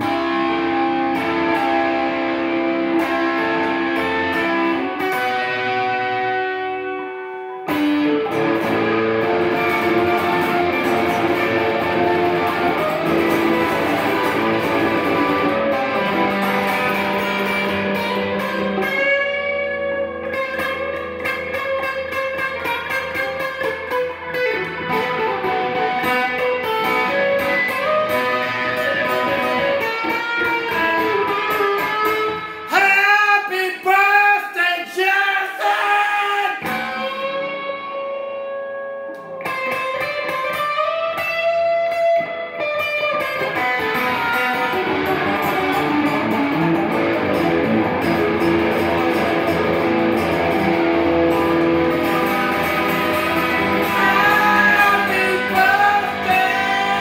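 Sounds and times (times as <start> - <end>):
electric guitar with effects: 0.0 - 57.0.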